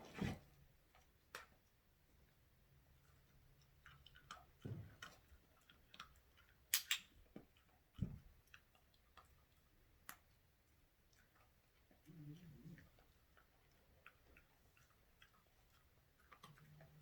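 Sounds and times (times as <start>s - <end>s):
dog chewing: 3.0s - 17.0s.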